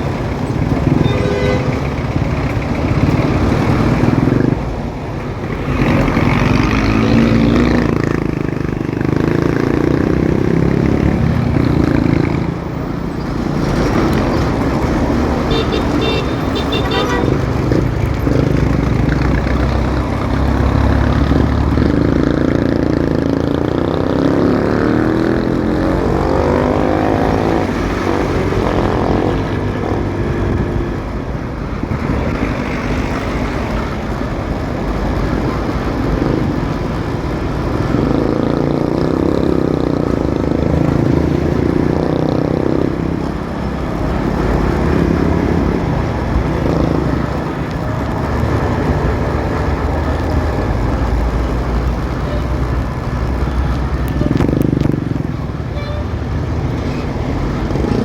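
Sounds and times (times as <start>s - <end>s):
road rumble: 0.0s - 58.0s.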